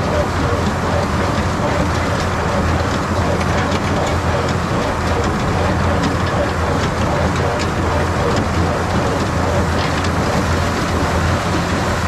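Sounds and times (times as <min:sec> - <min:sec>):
baler rattling clatter: 0:00.0 - 0:12.0
tractor engine drone: 0:00.0 - 0:12.0.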